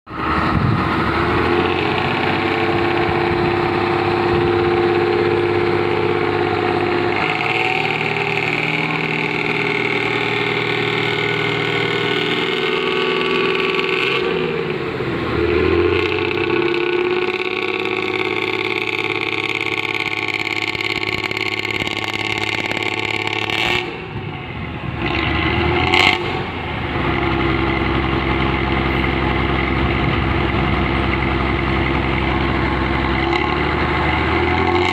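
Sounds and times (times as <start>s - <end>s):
diesel engine through racing exhaust: 0.1s - 34.9s.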